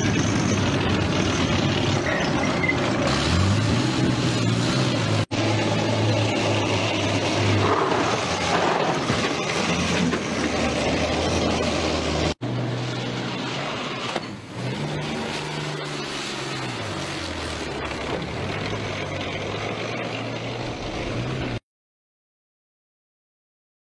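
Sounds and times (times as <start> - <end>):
diesel engine of tracked vehicle: 0.0 - 21.6.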